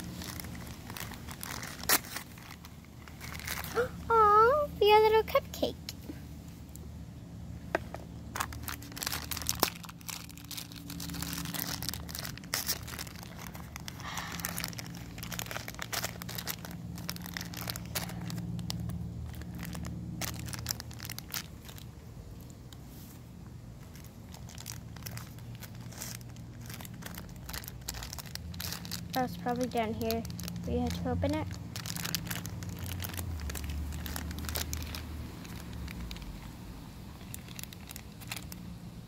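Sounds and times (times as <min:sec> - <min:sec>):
plastic packet crinkling: 0:00.0 - 0:04.0, 0:08.0 - 0:22.6, 0:23.8 - 0:39.0.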